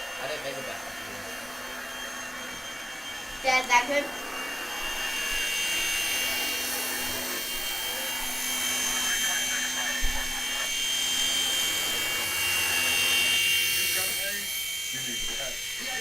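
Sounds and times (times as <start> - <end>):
toy helicopter rotor whine: 0.0 - 16.0.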